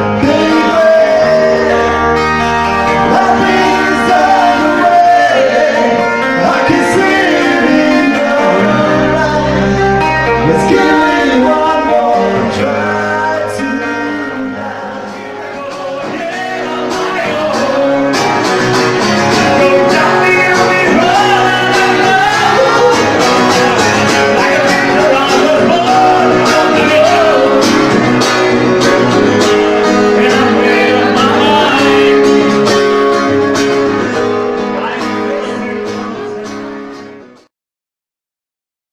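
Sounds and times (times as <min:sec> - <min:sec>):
person singing: 0:00.0 - 0:37.5
rock band playing: 0:00.0 - 0:37.5.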